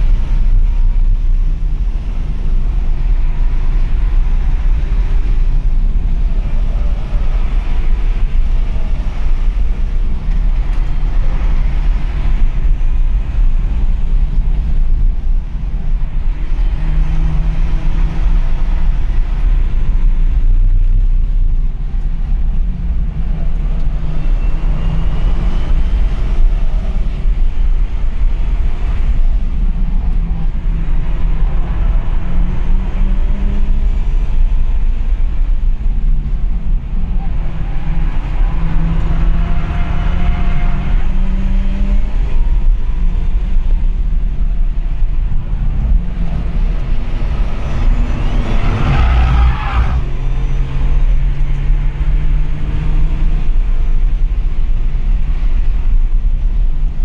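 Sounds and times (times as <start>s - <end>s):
car engine revving under load: 0.0s - 57.0s
road and wind rumble: 0.0s - 57.0s.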